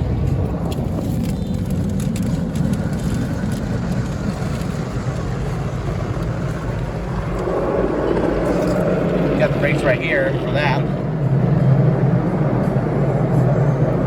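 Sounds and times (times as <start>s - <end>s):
car wash machinery: 0.0s - 14.0s
low rumble: 0.0s - 14.0s.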